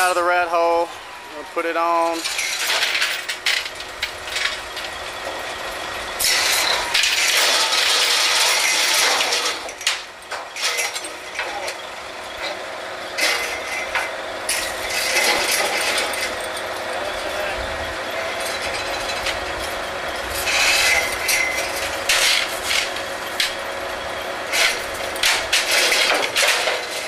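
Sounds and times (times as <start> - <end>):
steady engine hum: 0.0 - 27.0.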